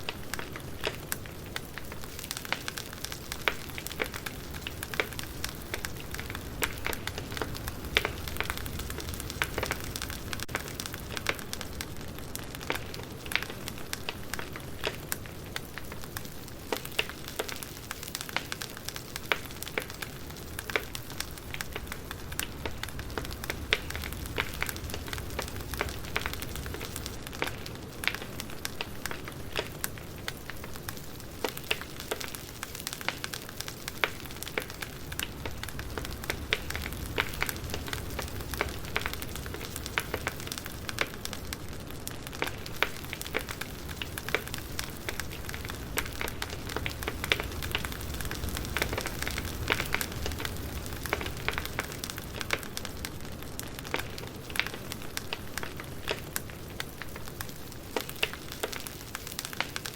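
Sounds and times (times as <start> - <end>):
burning logs popping and snapping: 0.0 - 59.9
low rumble of flames: 0.0 - 59.9.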